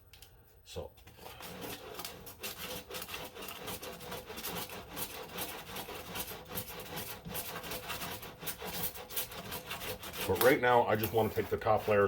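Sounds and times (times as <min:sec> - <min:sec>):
sandpaper rasping on filler: 0:01.2 - 0:12.0.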